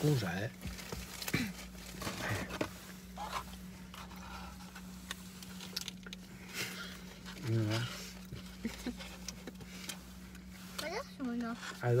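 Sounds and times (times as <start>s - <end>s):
steady low hum: 0.0s - 12.0s
small clicks and rustles: 0.6s - 12.0s.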